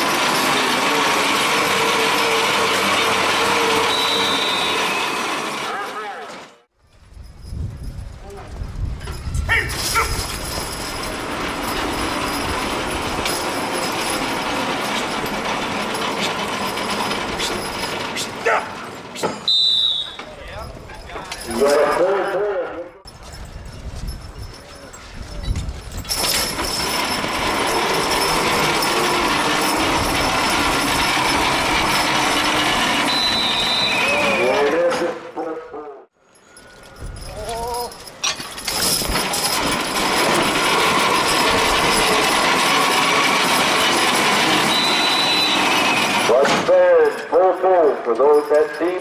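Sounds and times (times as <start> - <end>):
load grinding rumble: 0.0 - 5.8, 7.2 - 22.2, 23.0 - 35.4, 36.4 - 49.0
rig dragged across dirt: 0.0 - 8.0, 8.6 - 35.4, 36.2 - 49.0.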